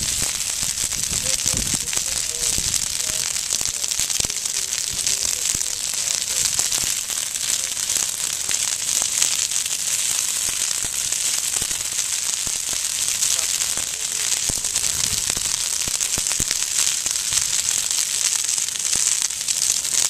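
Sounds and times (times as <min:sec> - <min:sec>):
brush fire crackling and popping: 0:00.0 - 0:20.0
fire hissing: 0:00.0 - 0:20.0.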